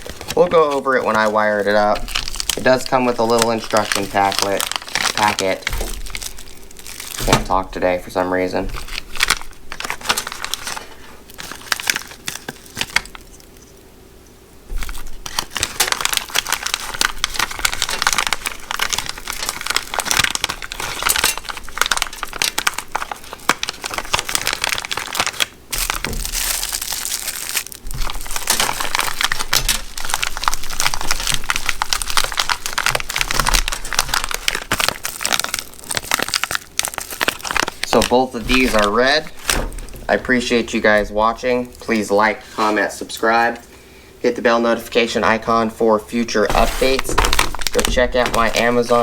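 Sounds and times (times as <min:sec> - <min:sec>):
plastic bag crinkling: 0:00.0 - 0:13.9, 0:14.7 - 0:43.7, 0:44.5 - 0:49.0.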